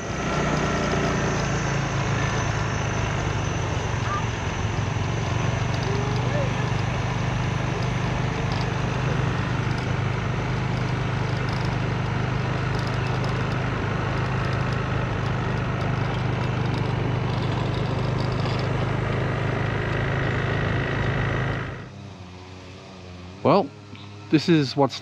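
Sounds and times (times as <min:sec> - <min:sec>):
scooter engine running: 0:00.0 - 0:24.3.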